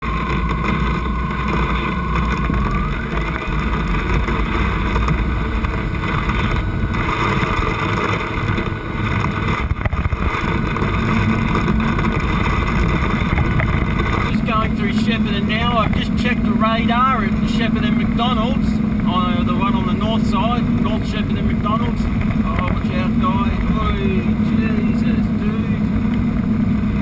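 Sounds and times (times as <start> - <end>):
car engine and tyre rumble: 0.0 - 27.0
faint rising whine: 0.0 - 27.0.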